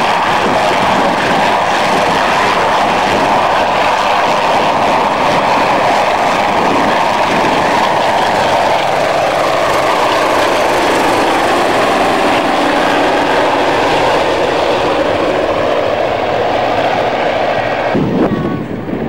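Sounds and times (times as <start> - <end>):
aircraft radial engines droning: 0.0 - 19.0.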